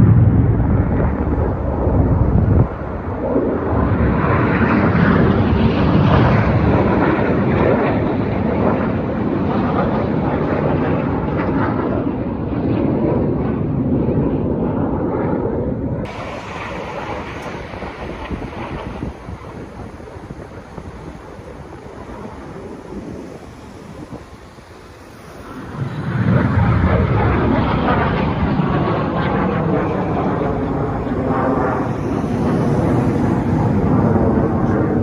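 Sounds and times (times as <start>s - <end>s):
jet aircraft roaring past: 0.0s - 35.0s
wind noise on microphone: 0.0s - 35.0s.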